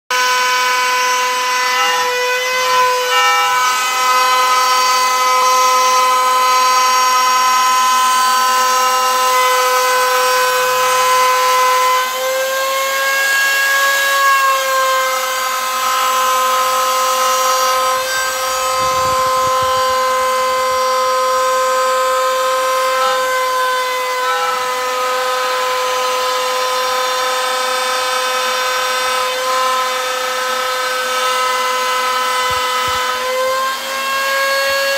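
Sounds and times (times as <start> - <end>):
router whining milling wood: 0.1 - 34.9.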